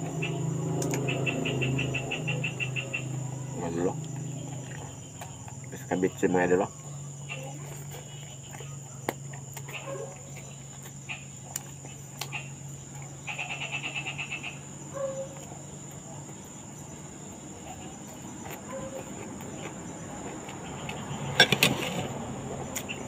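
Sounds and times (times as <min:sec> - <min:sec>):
close chewing: 0:00.0 - 0:23.0
high insect trill: 0:00.0 - 0:23.0
pulsed insect chirp: 0:00.0 - 0:23.0.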